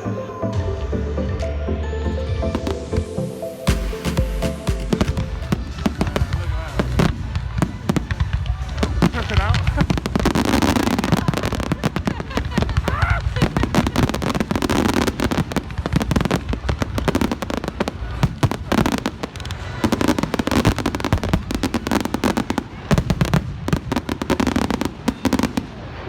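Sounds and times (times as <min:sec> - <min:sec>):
fireworks bangs and crackles: 0:02.5 - 0:26.0.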